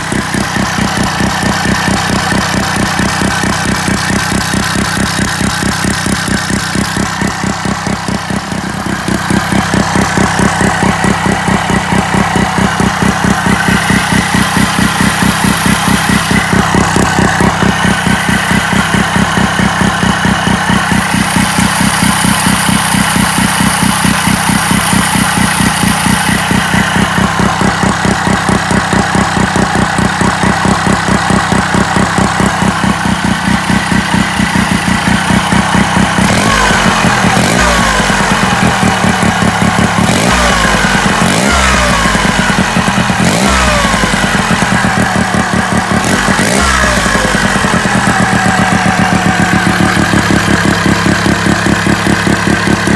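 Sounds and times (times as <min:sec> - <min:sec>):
rotary engine running: 0:00.0 - 0:52.9.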